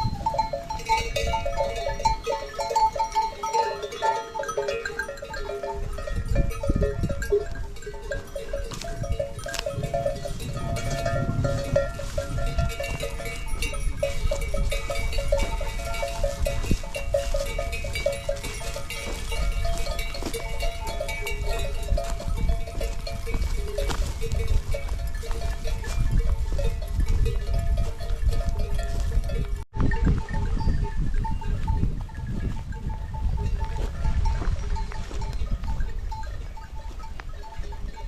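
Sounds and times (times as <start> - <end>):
livestock bells clanking: 0.0 - 38.0.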